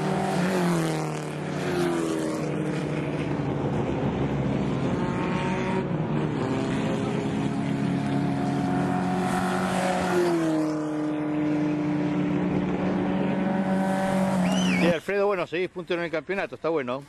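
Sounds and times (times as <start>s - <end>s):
race car engines at high revs: 0.0s - 15.0s.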